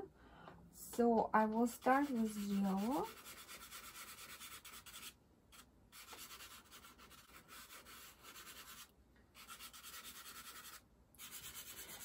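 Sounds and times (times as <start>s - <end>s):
pastel scratching on paper: 1.7s - 12.0s.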